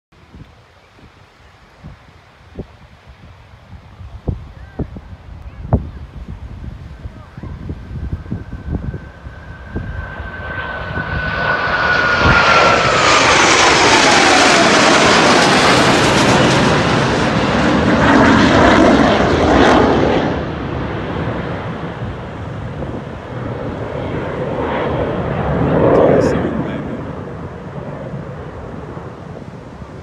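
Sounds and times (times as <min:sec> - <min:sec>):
jets flying past low: 0:01.6 - 0:30.0.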